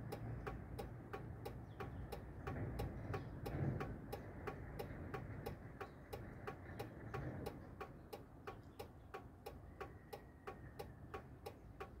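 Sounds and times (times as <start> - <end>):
steady ticking: 0.0 - 12.0.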